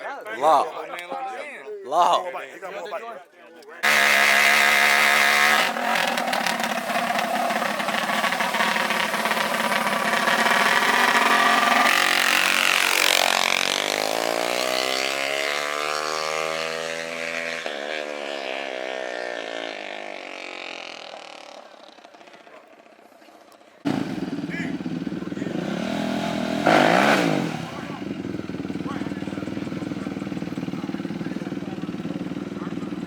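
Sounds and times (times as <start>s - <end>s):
small racing engines: 3.8s - 33.0s.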